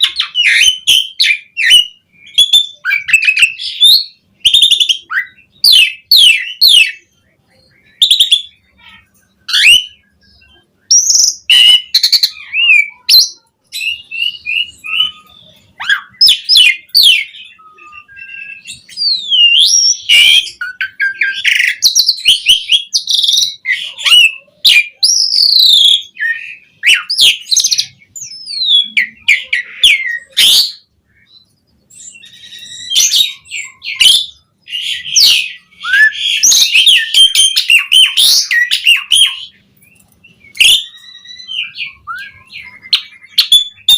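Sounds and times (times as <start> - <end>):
starling singing: 0.0 - 43.9.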